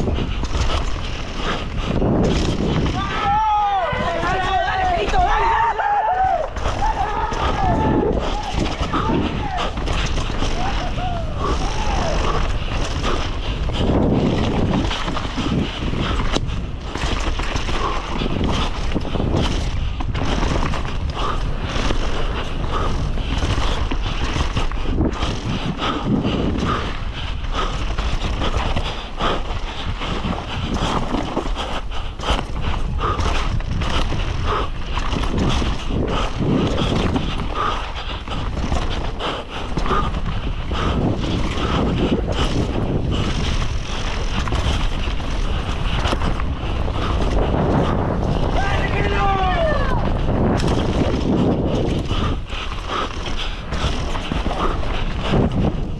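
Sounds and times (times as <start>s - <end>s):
bike rattling and knocking: 0.0s - 55.9s
tyres crunching and skidding on dirt: 0.0s - 55.9s
wind buffeting microphone: 0.0s - 55.9s.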